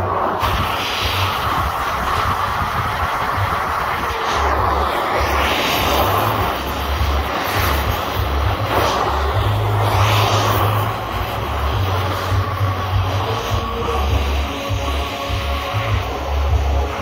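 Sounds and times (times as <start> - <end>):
cutting torch flame roaring: 0.0 - 17.0
low rumble: 0.0 - 17.0.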